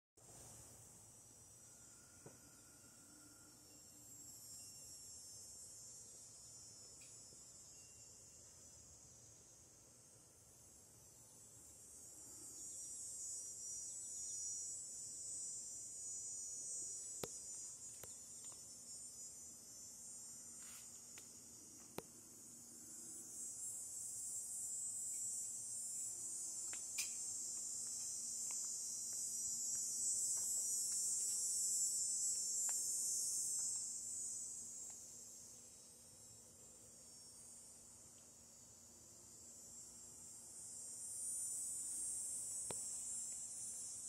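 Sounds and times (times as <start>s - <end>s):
insects droning: 0.2s - 44.0s.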